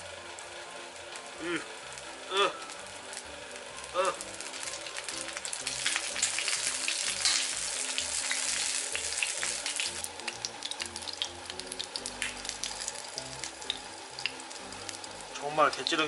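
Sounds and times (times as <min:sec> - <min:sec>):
batter sizzling in oil: 0:00.0 - 0:16.0.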